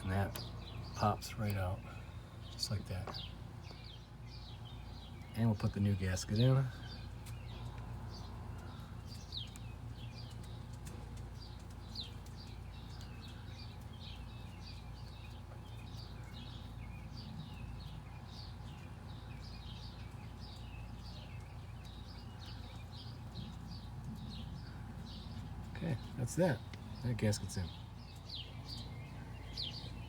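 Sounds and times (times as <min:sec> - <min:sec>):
birds chirping: 0:00.0 - 0:30.0
steady low rumble: 0:00.0 - 0:30.0.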